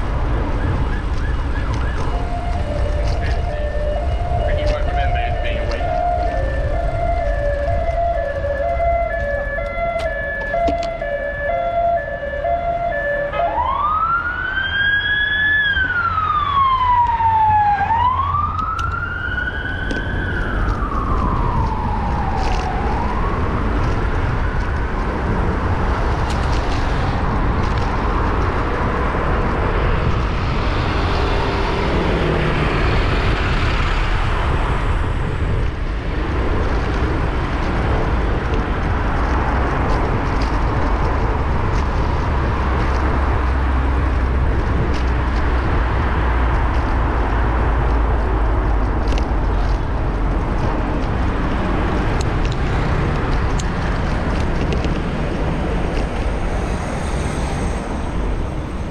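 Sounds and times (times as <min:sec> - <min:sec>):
emergency vehicle siren: 0:00.0 - 0:58.9
road traffic noise: 0:00.0 - 0:58.9.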